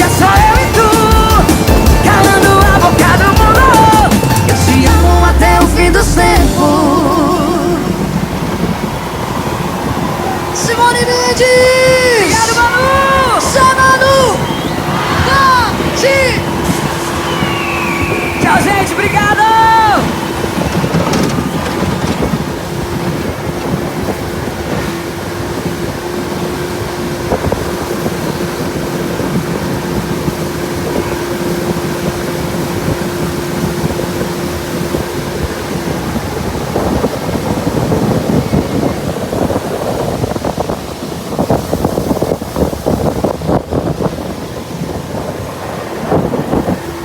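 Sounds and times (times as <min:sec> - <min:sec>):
motorboat engine: 0:00.0 - 0:47.0
water noise: 0:00.0 - 0:47.0
wind buffeting microphone: 0:00.0 - 0:47.0.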